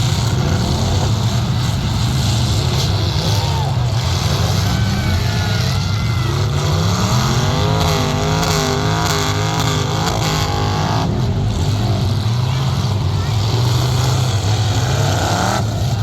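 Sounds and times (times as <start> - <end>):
truck engines revving loudly: 0.0 - 16.0.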